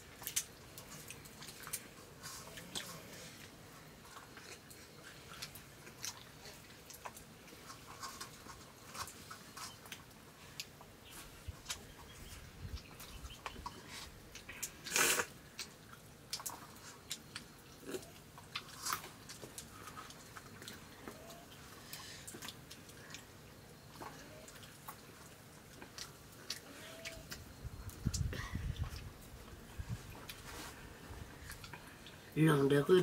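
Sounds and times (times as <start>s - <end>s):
chewing: 0.0s - 32.4s
fingers scooping rice from plates: 0.2s - 28.2s.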